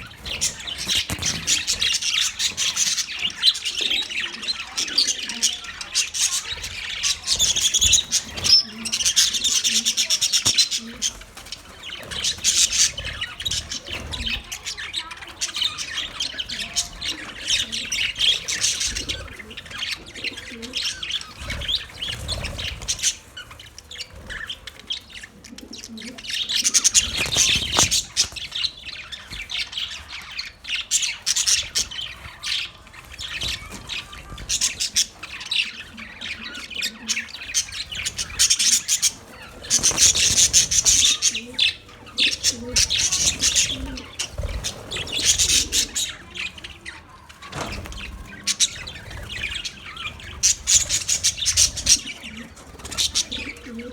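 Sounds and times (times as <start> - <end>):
budgerigars chirping: 0.0 - 53.9.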